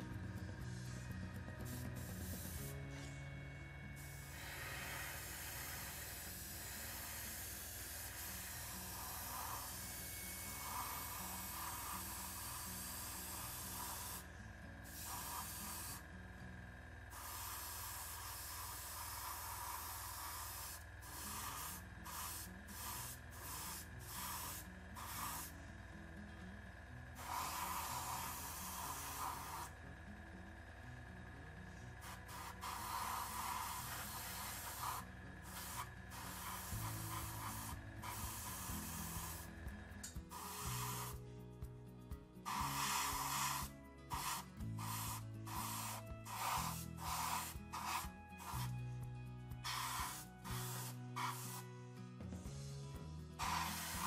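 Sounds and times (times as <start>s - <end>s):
airbrush spraying: 0.0s - 3.2s, 4.0s - 16.1s, 17.1s - 25.6s, 27.2s - 29.8s, 32.0s - 41.2s, 42.4s - 48.9s, 49.6s - 51.7s, 53.4s - 54.0s.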